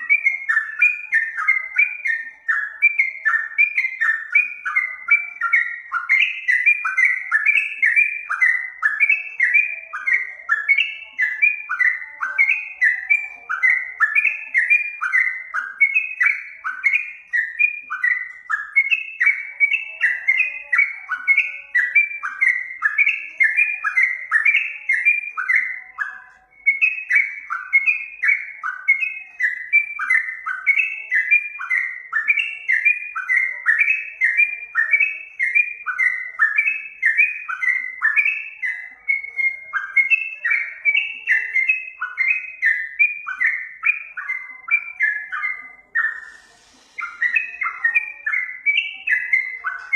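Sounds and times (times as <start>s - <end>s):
bird chirping: 0.0s - 49.9s.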